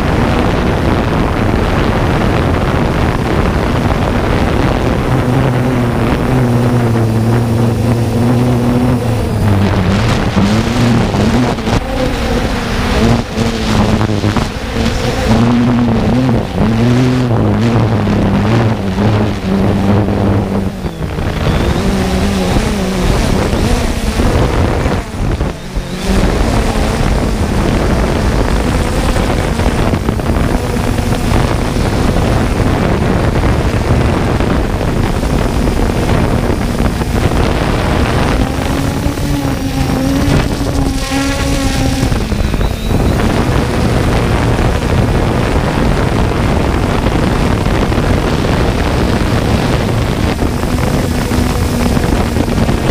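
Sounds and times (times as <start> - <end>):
drone propellers humming: 0.0 - 52.9
wind noise: 0.0 - 52.9.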